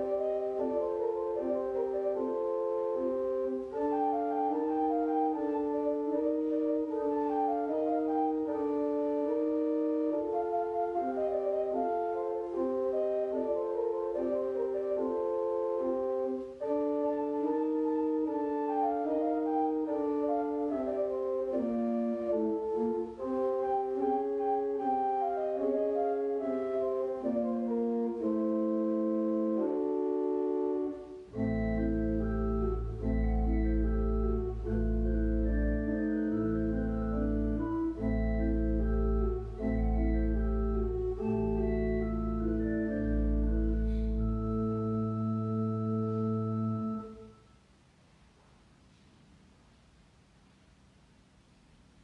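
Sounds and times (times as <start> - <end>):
deep organ pedal bass: 0.0 - 47.3
church organ chords: 0.0 - 47.5.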